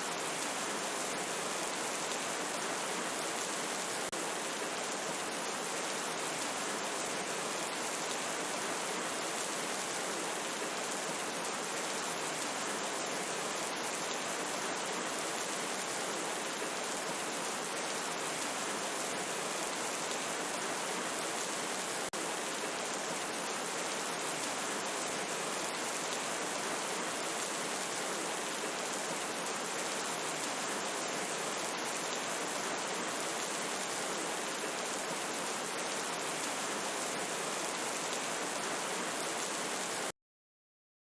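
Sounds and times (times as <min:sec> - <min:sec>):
steady rain falling: 0:00.0 - 0:40.1.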